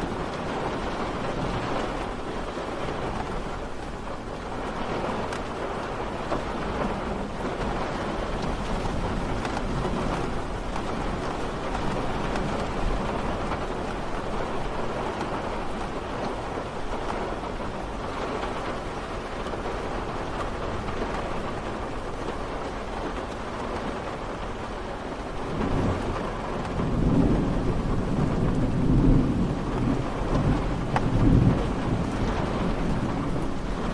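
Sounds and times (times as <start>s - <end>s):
low rumble of thunder: 0.0s - 33.9s
steady rain falling: 0.0s - 33.9s.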